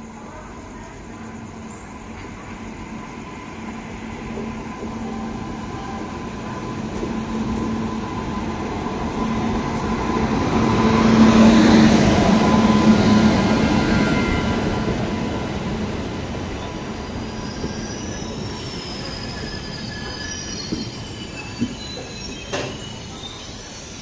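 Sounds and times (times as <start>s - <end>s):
train pulling into station: 0.0s - 24.0s
train coaches rolling by: 0.1s - 24.0s.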